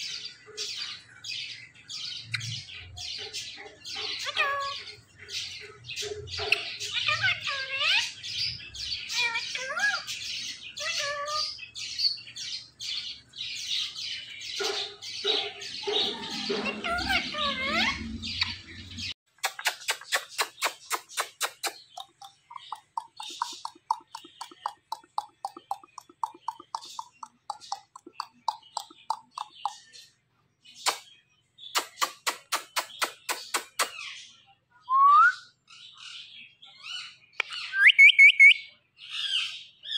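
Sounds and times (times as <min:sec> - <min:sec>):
parakeets squawking and chirping: 0:00.0 - 0:34.4.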